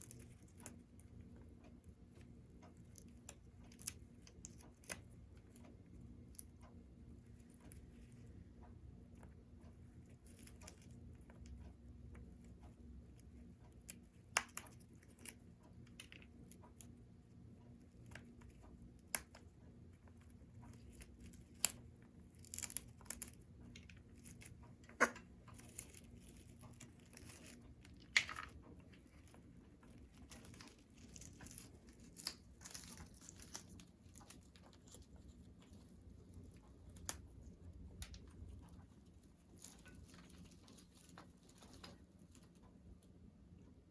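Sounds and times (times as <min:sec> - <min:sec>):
parrot chewing toy: 0:02.1 - 0:42.6.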